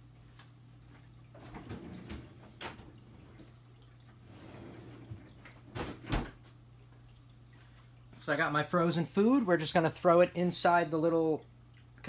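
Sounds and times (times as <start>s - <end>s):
aquarium pumps humming: 0.0s - 12.0s
water trickling and dripping: 0.0s - 12.0s.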